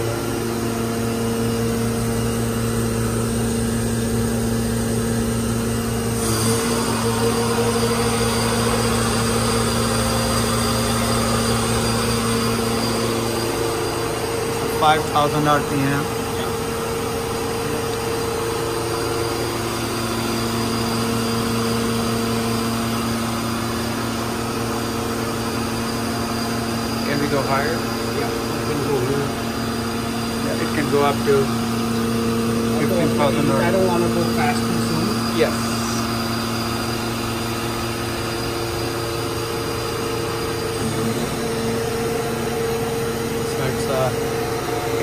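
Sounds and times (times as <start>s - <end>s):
machine spindle humming: 0.0s - 45.0s.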